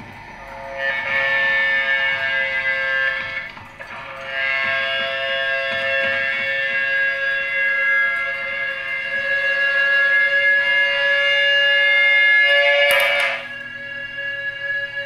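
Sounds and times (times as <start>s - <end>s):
droning electric guitar chord: 0.0s - 15.0s.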